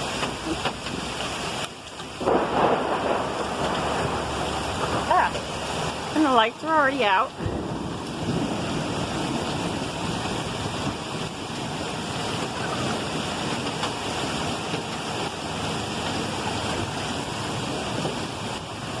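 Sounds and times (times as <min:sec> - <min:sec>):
gusting wind: 0:00.0 - 0:19.0
heavy rain and hail: 0:00.0 - 0:19.0.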